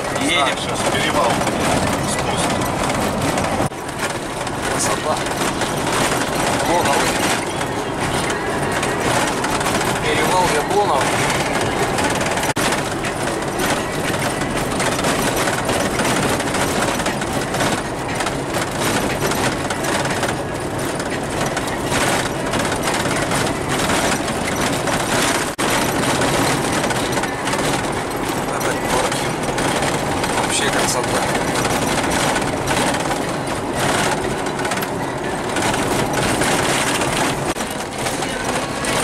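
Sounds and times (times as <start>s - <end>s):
cabin rattling and clatter: 0.0s - 39.0s
tyres running over gravel: 0.0s - 39.0s
vehicle engine running: 0.0s - 39.0s.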